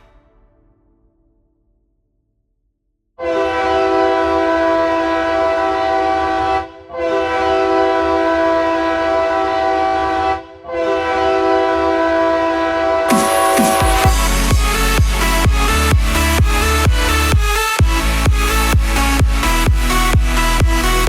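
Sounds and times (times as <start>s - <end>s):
horn chord blasts: 0.0s - 1.1s, 3.2s - 21.0s.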